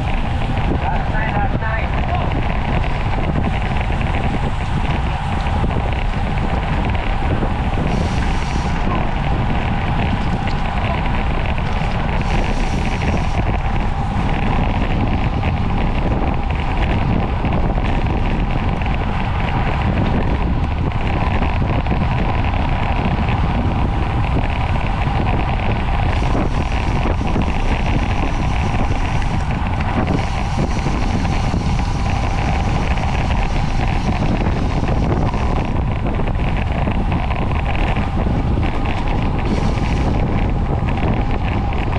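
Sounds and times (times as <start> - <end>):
wind rumbling over microphone: 0.0 - 41.9.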